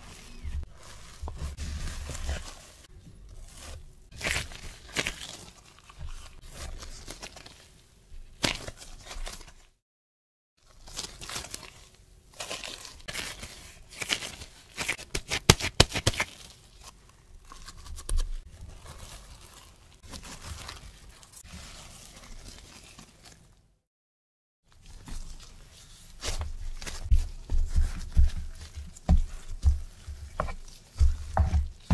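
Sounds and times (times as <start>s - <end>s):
dough squishing and patting: 0.0s - 9.8s, 10.7s - 23.7s, 24.7s - 31.9s
gloves rustling and crinkling: 0.0s - 9.8s, 10.6s - 23.8s, 24.7s - 31.9s.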